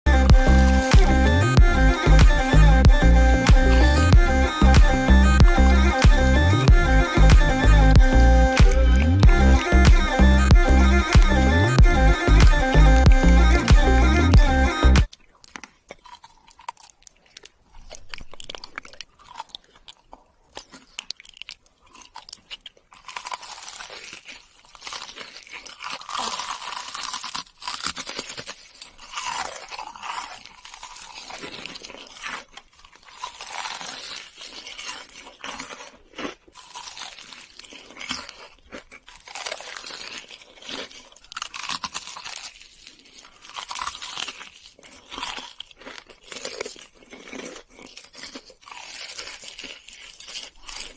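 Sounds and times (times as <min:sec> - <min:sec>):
person chewing crunchy food: 0:00.1 - 0:50.9.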